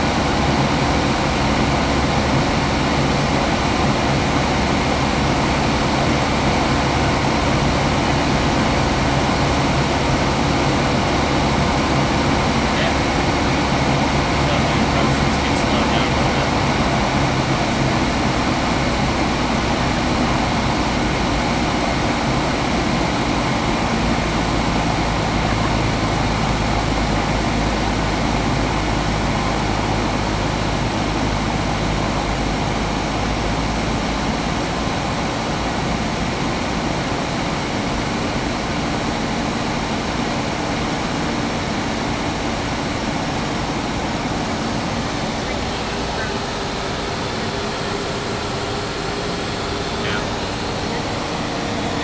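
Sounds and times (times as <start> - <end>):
propeller aircraft engine droning: 0.0 - 52.0.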